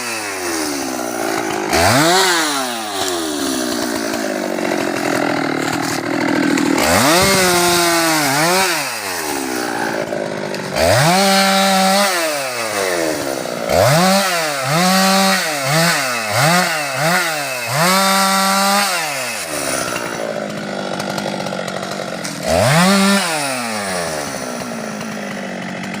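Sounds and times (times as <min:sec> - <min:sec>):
chainsaw revving: 0:00.0 - 0:26.0.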